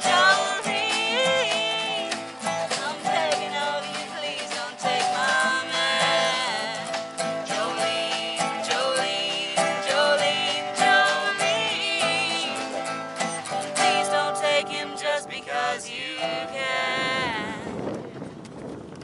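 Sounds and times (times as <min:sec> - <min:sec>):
person singing: 0:00.0 - 0:17.8
acoustic guitars playing: 0:00.0 - 0:18.4.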